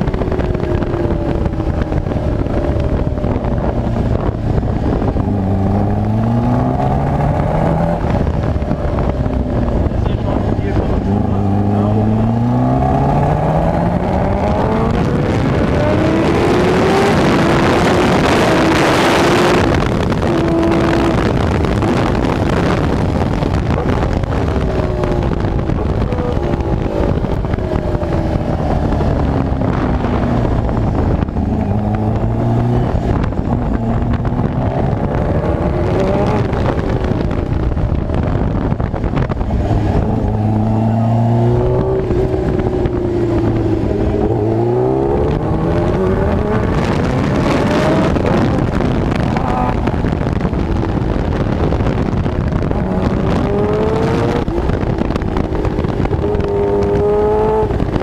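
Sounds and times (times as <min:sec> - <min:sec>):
motorcycle engine revving: 0:00.0 - 0:58.0
wind noise rushing: 0:00.0 - 0:58.0.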